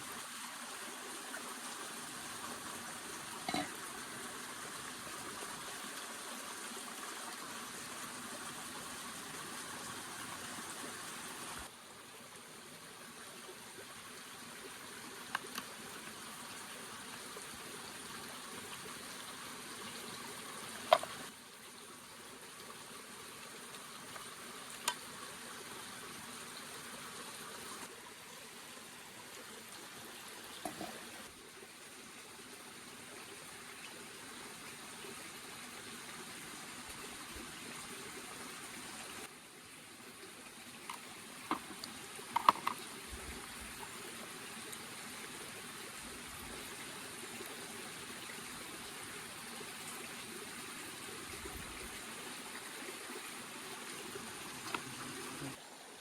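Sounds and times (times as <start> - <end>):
moving water: 0.0 - 56.0.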